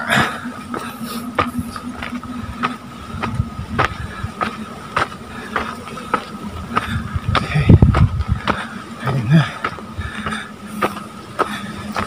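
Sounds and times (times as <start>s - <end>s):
wind rumble on microphone: 0.0s - 11.0s
footsteps crunching on gravel: 0.0s - 12.0s.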